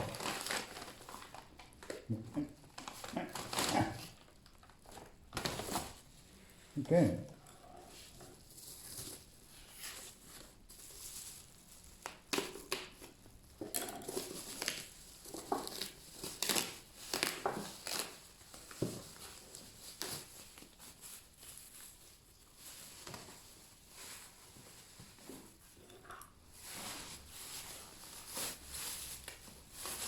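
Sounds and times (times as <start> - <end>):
packaging crinkling and tearing: 0.0 - 6.1, 8.4 - 23.8, 26.6 - 30.0.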